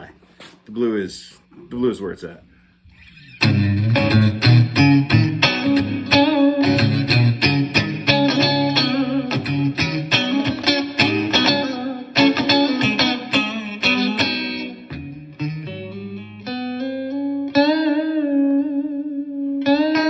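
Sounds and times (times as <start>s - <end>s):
electric guitar through an amp: 2.9s - 20.0s.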